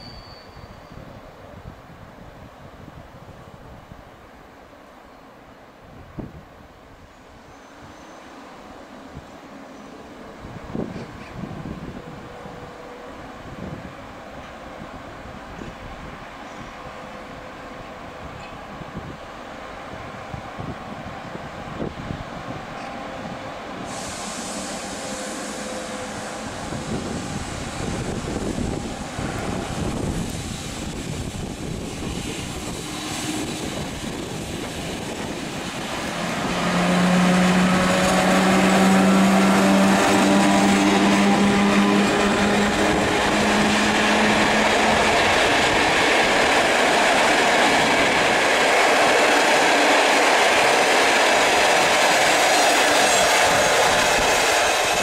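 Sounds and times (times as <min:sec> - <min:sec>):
electric locomotive hum: 0:07.7 - 0:55.0.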